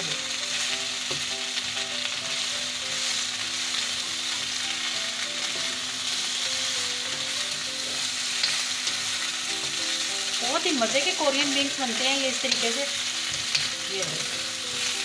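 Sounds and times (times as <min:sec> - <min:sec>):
chicken wings sizzling in sauce: 0:00.0 - 0:15.0
spatula stirring in wok: 0:02.9 - 0:15.0.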